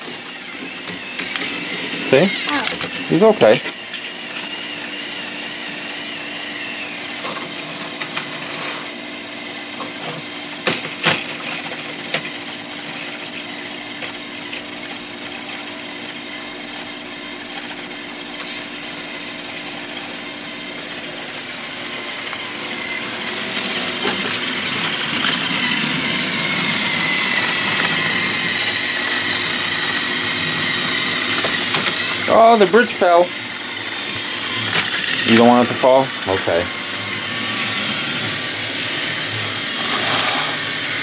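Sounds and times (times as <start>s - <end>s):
toy train motors whirring: 0.0s - 41.0s.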